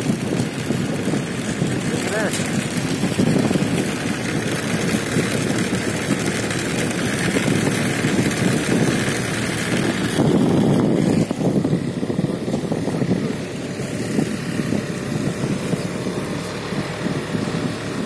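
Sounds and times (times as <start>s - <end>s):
motorbike engine: 0.0s - 18.0s
wind buffeting microphone: 0.0s - 18.0s.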